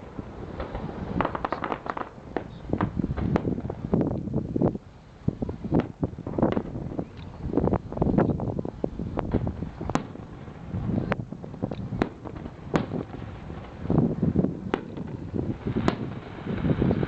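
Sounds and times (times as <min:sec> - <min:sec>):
fireworks cracking: 0:00.0 - 0:17.0
wind on microphone: 0:00.0 - 0:17.0.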